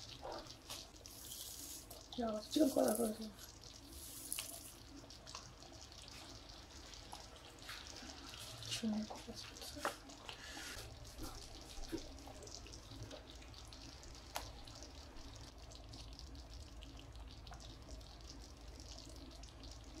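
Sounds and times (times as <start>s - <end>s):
gravy simmering in a pan: 0.0s - 20.0s.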